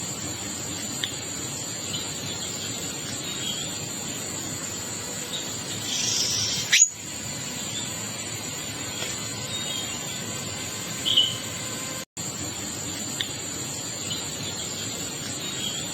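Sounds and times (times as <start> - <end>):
high-pitched hum: 0.0 - 15.9.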